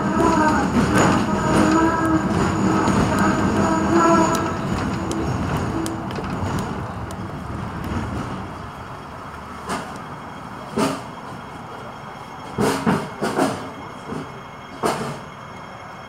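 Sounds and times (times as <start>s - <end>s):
tram rumbling: 0.0s - 16.0s.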